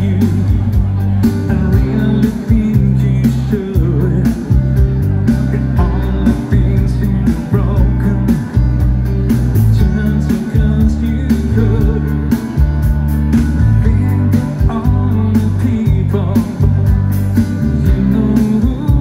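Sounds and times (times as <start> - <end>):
person singing: 0.0 - 8.9, 9.6 - 19.0
band playing dance music: 0.0 - 19.0.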